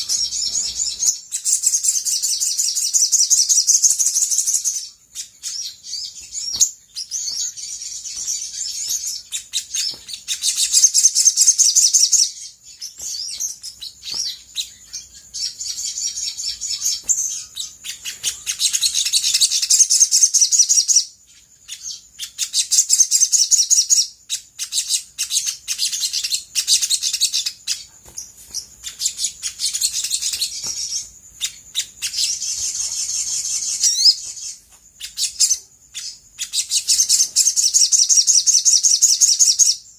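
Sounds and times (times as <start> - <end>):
bird trilling and chattering: 0.0 - 21.0, 21.6 - 39.8.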